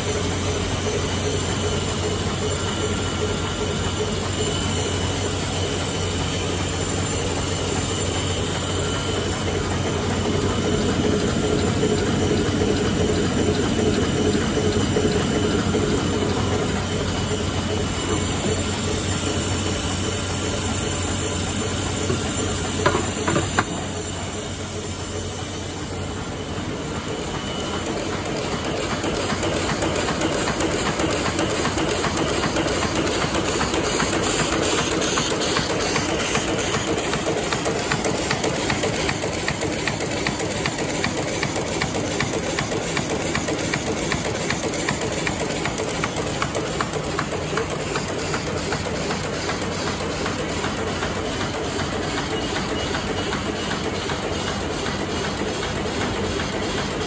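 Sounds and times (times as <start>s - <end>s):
printing press feeder clatter: 0.0s - 24.4s, 26.9s - 57.0s
air pump hum: 0.0s - 57.0s.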